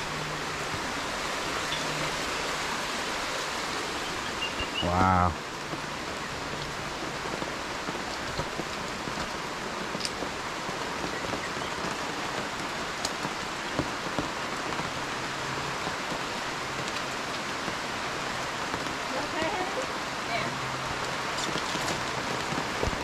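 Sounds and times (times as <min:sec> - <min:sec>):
falling water hiss: 0:00.0 - 0:23.0.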